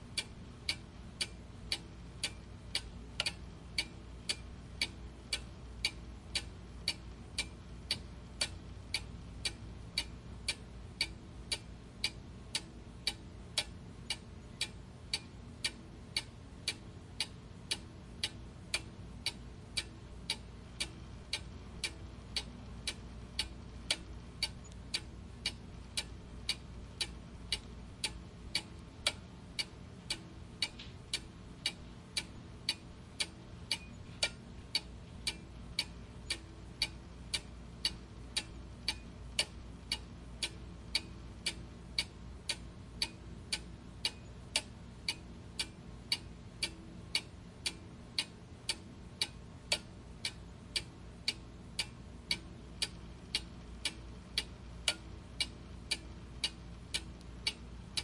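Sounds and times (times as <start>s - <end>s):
clock ticking: 0.1s - 58.0s.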